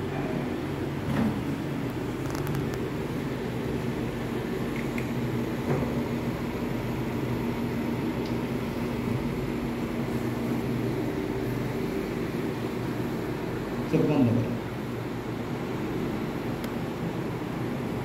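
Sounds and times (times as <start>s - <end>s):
air conditioning hum: 0.0s - 18.0s.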